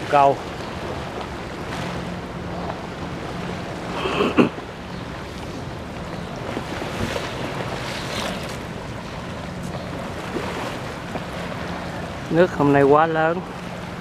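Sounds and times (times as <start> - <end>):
river water lapping: 0.0 - 14.0
wind on microphone: 0.6 - 12.4.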